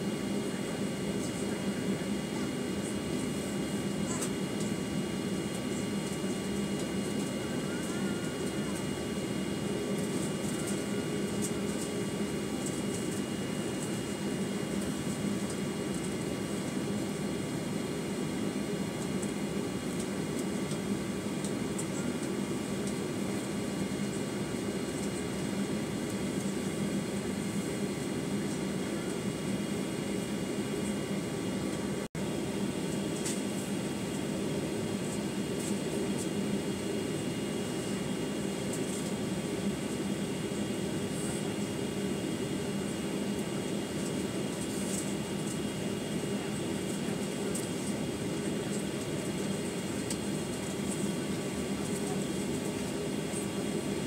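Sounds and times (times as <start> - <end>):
steady engine whines: 0.3 - 54.0.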